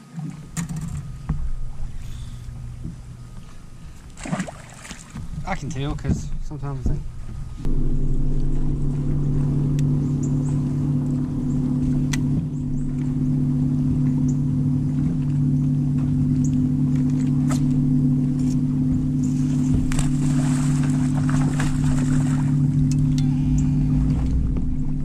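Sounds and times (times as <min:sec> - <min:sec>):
electric trolling motor hum: 0:00.0 - 0:25.0.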